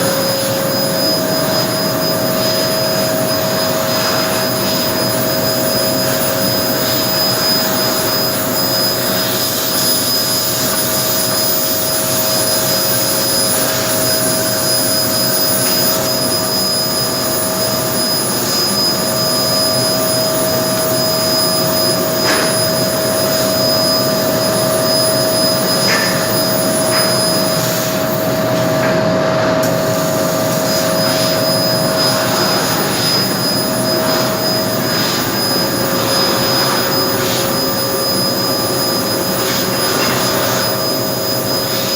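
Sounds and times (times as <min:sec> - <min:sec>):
laser cutter hissing and whining: 0:00.0 - 0:41.9.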